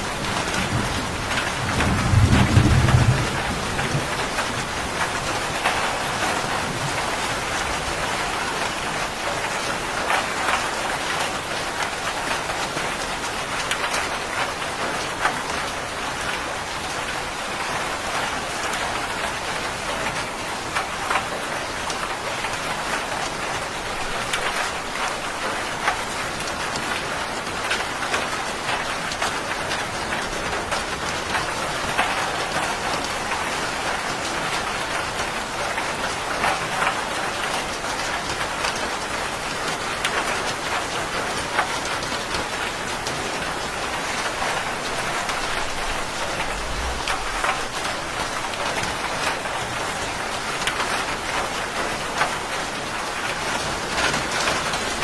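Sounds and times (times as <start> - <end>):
raindrops pattering on a surface: 0.0 - 55.0
steady rain falling: 0.0 - 55.0.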